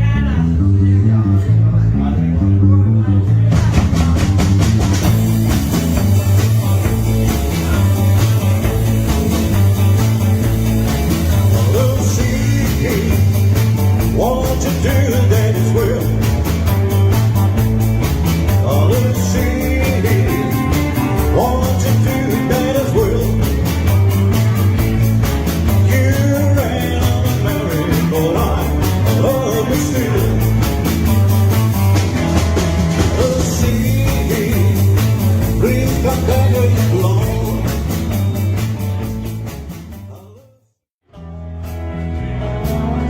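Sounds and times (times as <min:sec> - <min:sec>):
rock and roll band playing: 0:02.2 - 0:40.5, 0:41.1 - 0:43.0.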